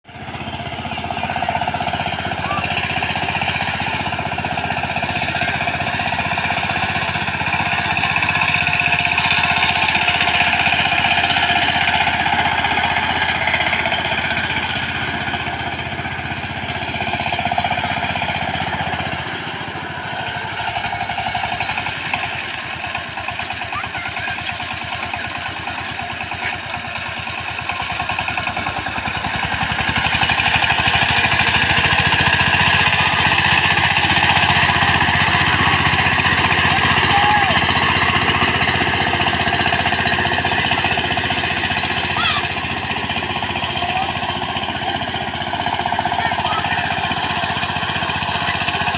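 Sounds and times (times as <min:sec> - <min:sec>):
diesel tiller engine chugging: 0:00.0 - 0:48.9.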